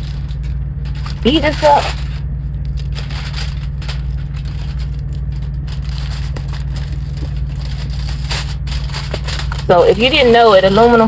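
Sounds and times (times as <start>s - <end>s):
aluminum foil crinkling: 0.0s - 11.0s
diesel engine drone: 0.0s - 11.0s.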